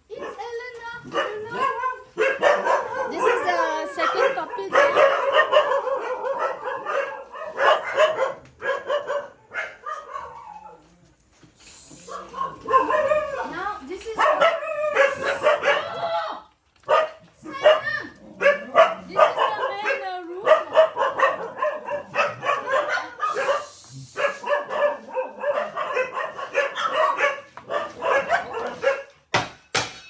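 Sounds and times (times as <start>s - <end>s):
dogs barking and yipping: 0.1s - 29.3s.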